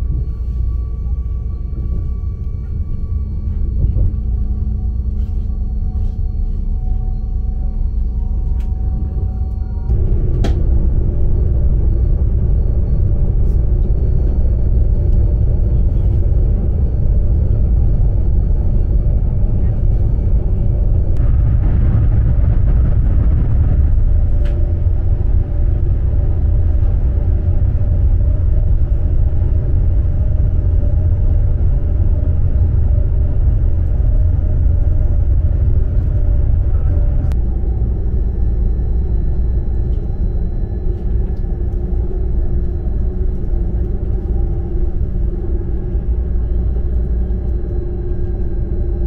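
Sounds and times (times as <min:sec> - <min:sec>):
faint humming tones: 0:00.0 - 0:49.0
train interior low rumble: 0:00.0 - 0:49.0.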